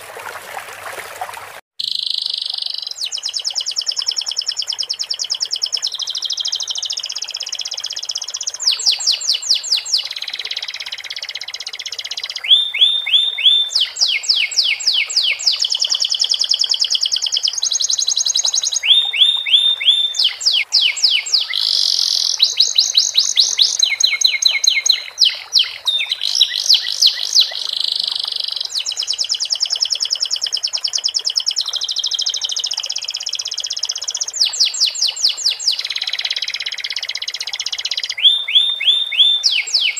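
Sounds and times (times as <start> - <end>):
canary singing fast trills: 1.8 - 39.9.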